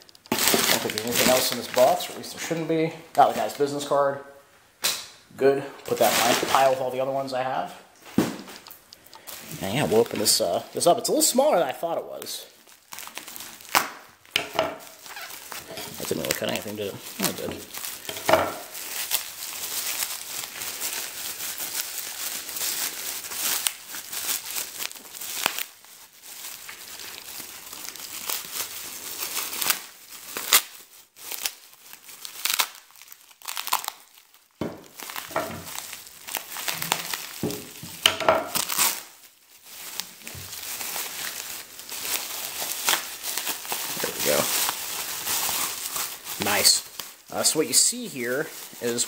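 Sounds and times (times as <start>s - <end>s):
bubble wrap crinkling and tearing: 0.0s - 4.0s, 4.8s - 49.0s.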